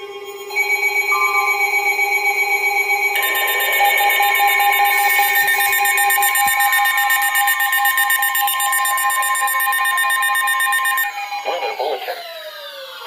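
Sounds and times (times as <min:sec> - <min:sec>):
shrill emergency alert tones: 0:00.5 - 0:12.4
rapid pulsing beep: 0:00.6 - 0:11.2.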